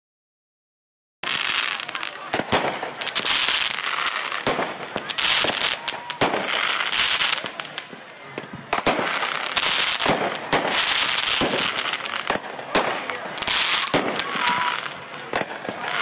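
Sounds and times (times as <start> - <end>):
fireworks bangs and crackles: 1.2 - 16.0
fireworks hissing: 1.2 - 16.0.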